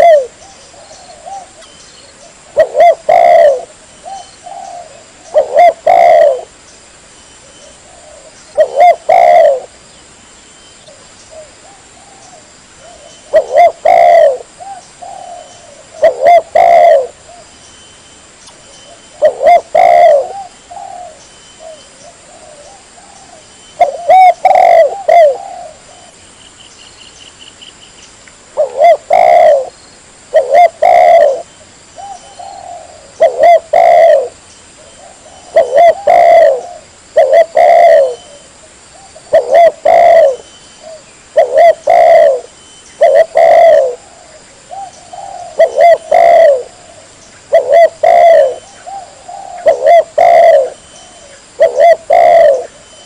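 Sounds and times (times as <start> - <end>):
dove cooing: 0.0 - 6.6, 7.5 - 9.8, 10.9 - 17.5, 18.9 - 26.2, 28.6 - 53.0.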